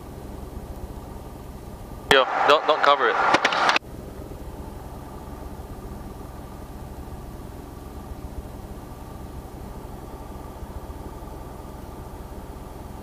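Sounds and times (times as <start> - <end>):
airplane piston engine idling: 0.0 - 13.0.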